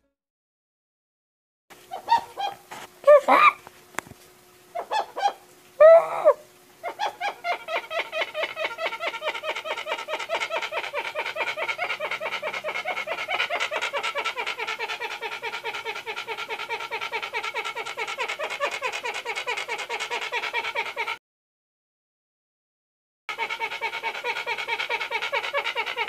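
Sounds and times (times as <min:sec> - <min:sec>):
hornbill calling: 0:01.9 - 0:03.6, 0:04.7 - 0:21.2, 0:23.3 - 0:26.0.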